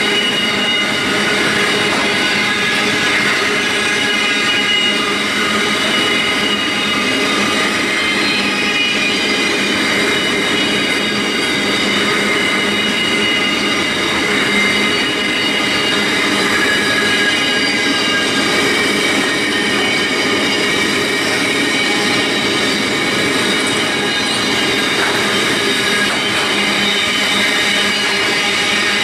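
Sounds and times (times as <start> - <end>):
freight train wheels on rail: 0.0 - 29.0
high squealing wheels: 0.0 - 29.0.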